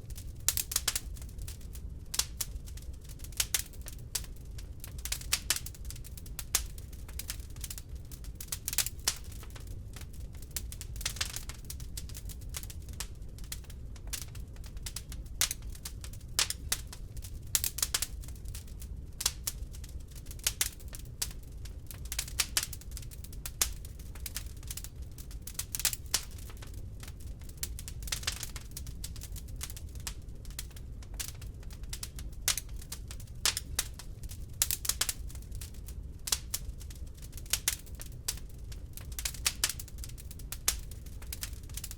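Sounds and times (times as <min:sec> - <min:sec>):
low fire rumble: 0:00.0 - 0:41.9
wood fire crackling: 0:00.0 - 0:41.9.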